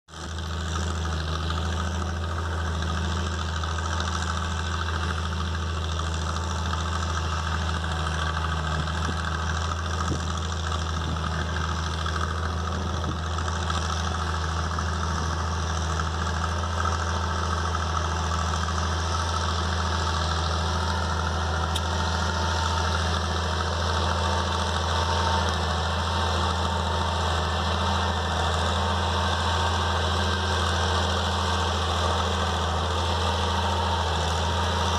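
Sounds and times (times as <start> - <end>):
tractor diesel engine rumbling: 0.0 - 34.9.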